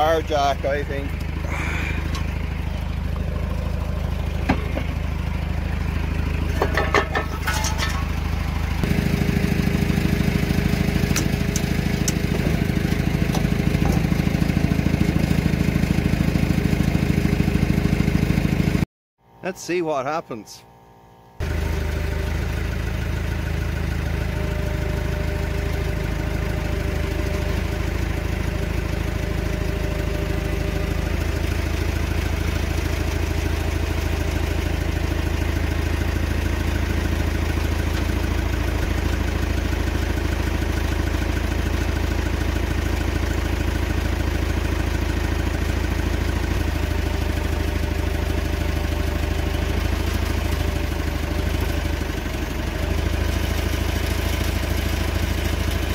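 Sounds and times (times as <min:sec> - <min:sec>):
forklift engine idling: 0:00.0 - 0:55.9.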